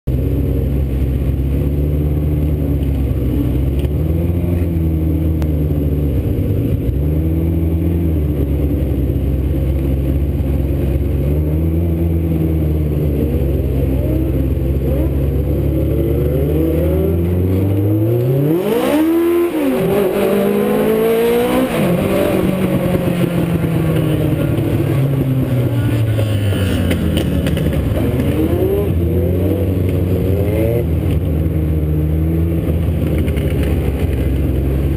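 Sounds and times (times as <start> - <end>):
race car engines passing: 0.9 - 34.9.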